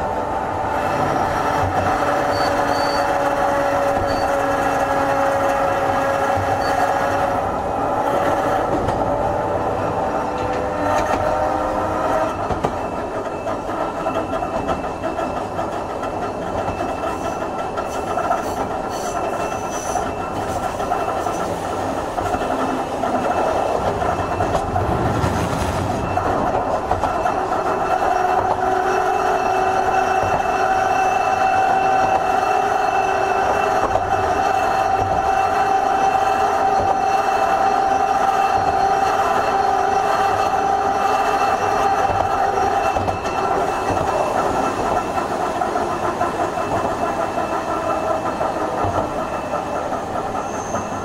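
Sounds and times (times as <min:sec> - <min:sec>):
tram wheels rumbling on rails: 0:00.0 - 0:51.0
clattering over track: 0:09.9 - 0:51.0.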